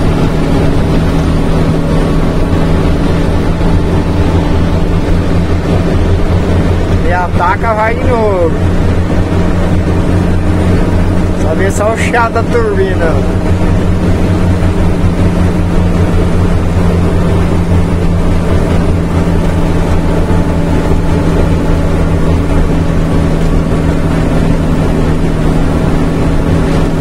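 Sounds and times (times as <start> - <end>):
diesel truck engine drone: 0.0 - 27.0.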